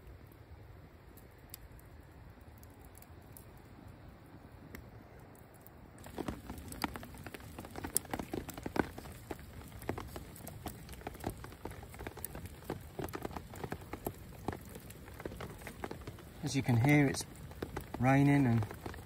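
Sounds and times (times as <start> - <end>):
rain falling: 0.0 - 4.6, 5.2 - 19.0.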